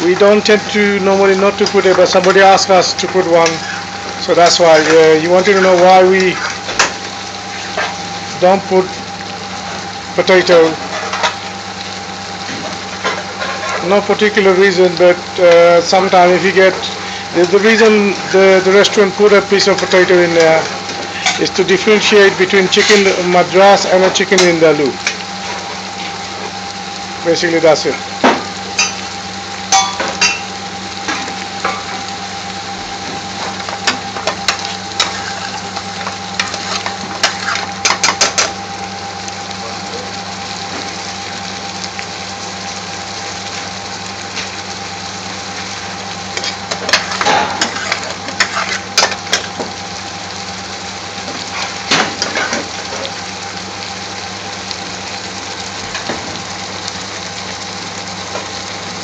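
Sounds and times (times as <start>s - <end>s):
kitchen hiss and hum: 0.0s - 59.0s.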